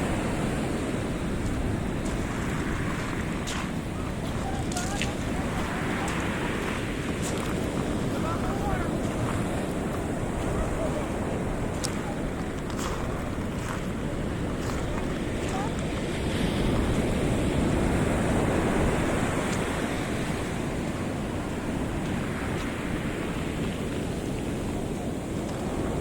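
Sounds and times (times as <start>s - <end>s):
surf breaking on beach: 0.0s - 26.0s
wind buffeting microphone: 0.0s - 26.0s.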